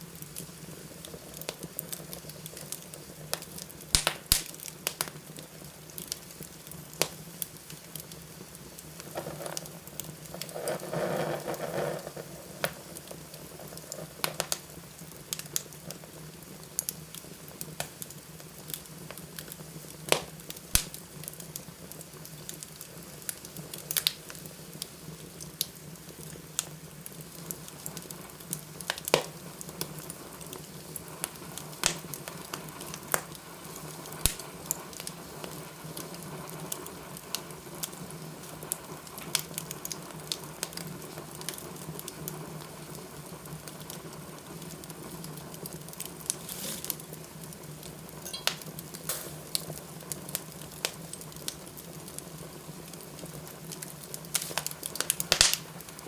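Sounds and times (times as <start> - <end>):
fire crackling and popping: 0.0 - 56.0
fire hissing: 0.0 - 56.0
fire rushing in fireplace: 0.0 - 56.0.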